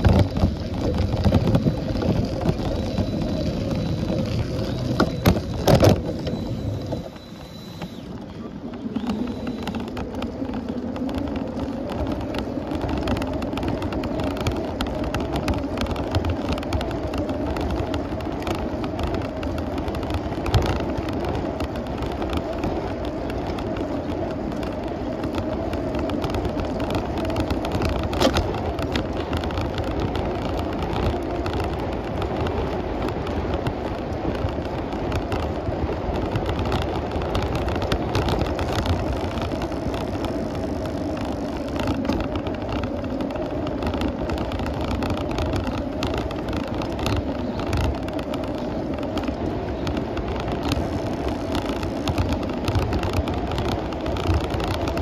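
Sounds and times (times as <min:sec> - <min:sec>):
bicycle tyres rolling on pavement: 0:00.0 - 0:55.0.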